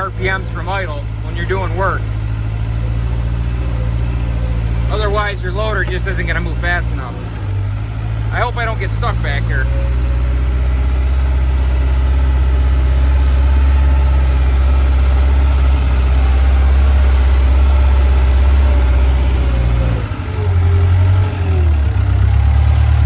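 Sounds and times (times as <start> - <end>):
skid steer engine running: 0.0 - 23.0.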